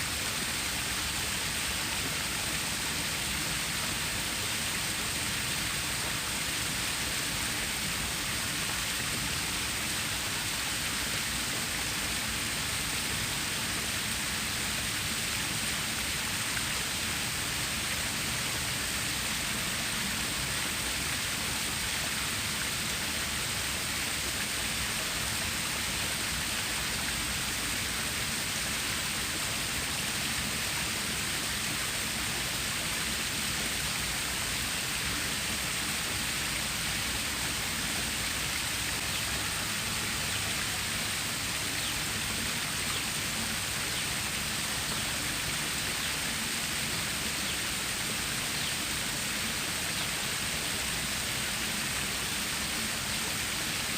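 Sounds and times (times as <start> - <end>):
rushing stream water: 0.0 - 53.9.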